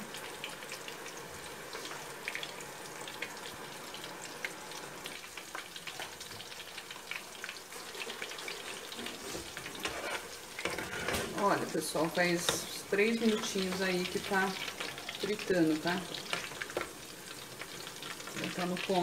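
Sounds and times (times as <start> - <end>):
meatballs sizzling in oil: 0.0 - 19.0
oil crackling and popping: 0.0 - 19.0.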